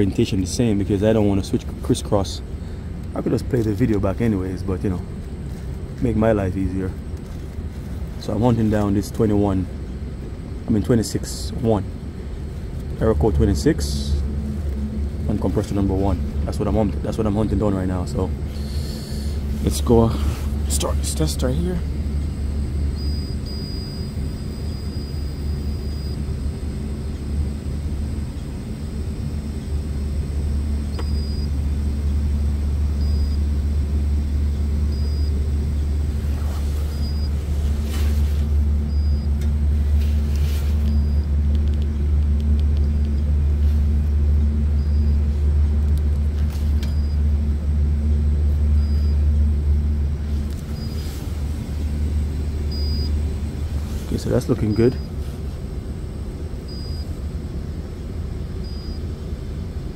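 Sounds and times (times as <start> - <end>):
low rumble of machinery: 0.0 - 59.9.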